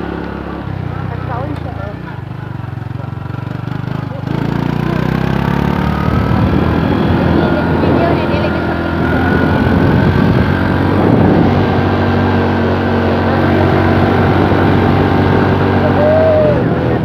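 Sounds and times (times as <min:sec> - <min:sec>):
motor scooter engine running: 0:00.0 - 0:17.0.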